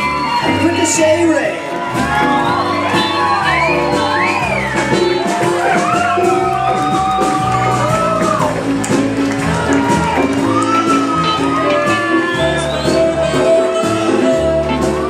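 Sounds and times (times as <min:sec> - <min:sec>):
crowd shouting and whooping: 0:00.0 - 0:15.0
live band playing: 0:00.0 - 0:15.0.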